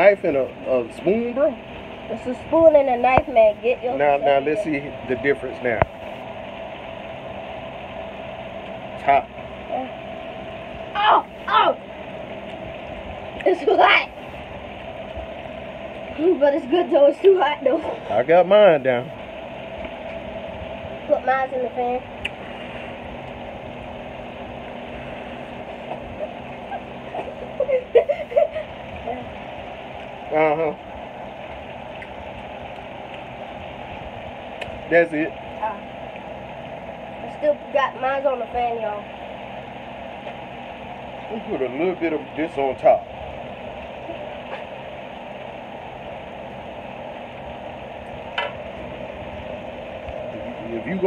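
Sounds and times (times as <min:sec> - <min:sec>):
electric fan running: 0:00.0 - 0:51.0.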